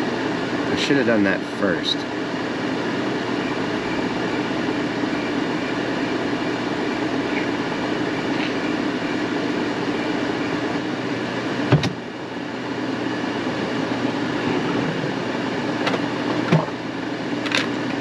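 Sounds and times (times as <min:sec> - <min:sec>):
mechanical fan hum: 0:00.0 - 0:18.0.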